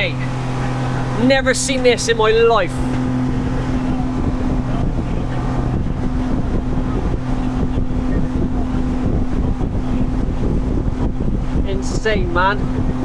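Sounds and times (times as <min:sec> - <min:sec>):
motorboat engine humming: 0:00.0 - 0:13.0
wind buffeting microphone: 0:00.0 - 0:13.0.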